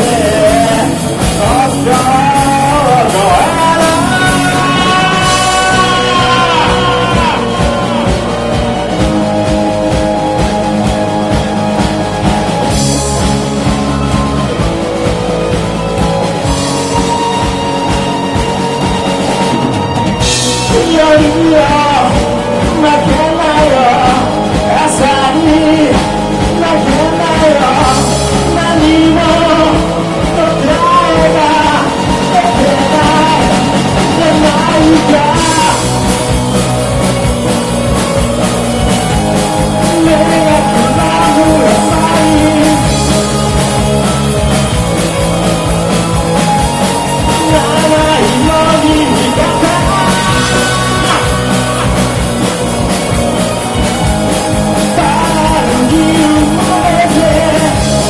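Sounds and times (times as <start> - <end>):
bass guitar: 0.0 - 58.0
drums: 0.0 - 58.0
electric guitars: 0.0 - 58.0
person singing: 0.0 - 58.0.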